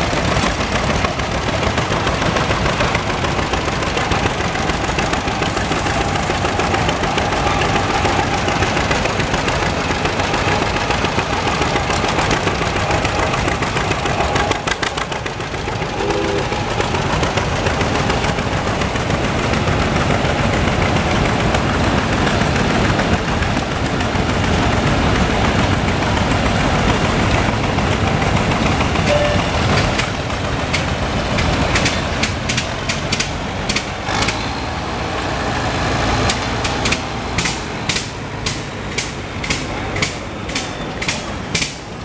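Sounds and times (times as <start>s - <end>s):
tractor engines rumbling: 0.0s - 42.0s.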